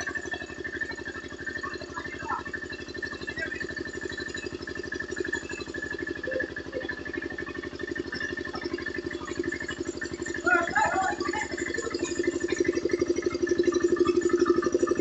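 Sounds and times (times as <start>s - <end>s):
engine fast thudding: 0.0s - 15.0s
steady high whine: 0.0s - 15.0s.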